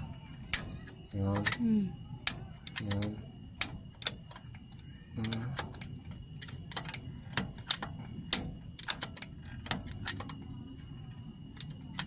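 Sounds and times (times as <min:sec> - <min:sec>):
hand tools clicking on metal: 0:00.0 - 0:10.5.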